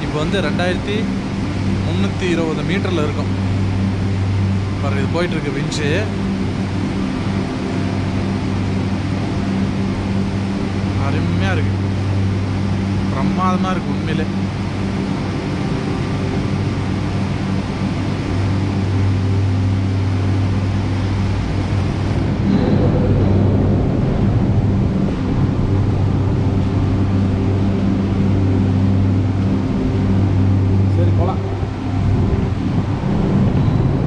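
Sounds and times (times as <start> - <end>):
cabin rolling through station: 0.0 - 34.0
gondola station machinery hum: 0.0 - 34.0.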